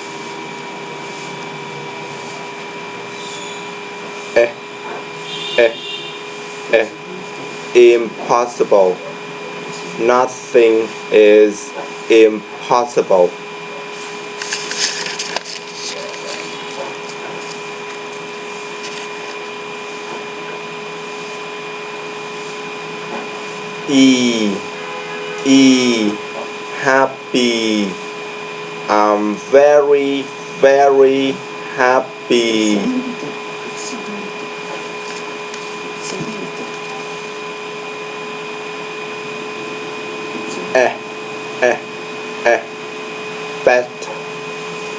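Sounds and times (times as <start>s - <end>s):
electrical hum and hiss: 0.0s - 44.9s
faint whining tones: 0.0s - 44.9s.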